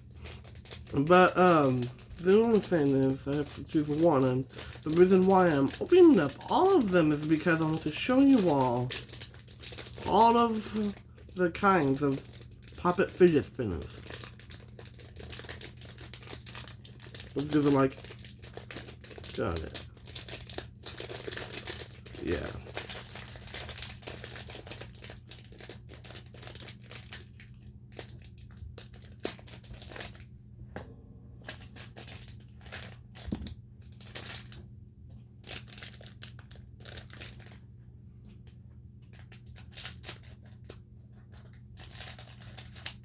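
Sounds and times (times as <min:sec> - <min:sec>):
plastic packaging crinkling: 0:00.0 - 0:30.3, 0:31.4 - 0:34.6, 0:35.4 - 0:37.7, 0:38.4 - 0:43.0.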